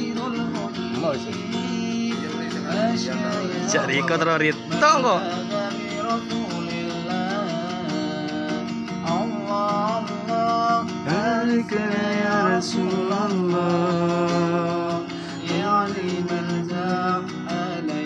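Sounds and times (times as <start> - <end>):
man singing devotional song: 0.0 - 18.0
strummed acoustic guitar: 0.0 - 18.0.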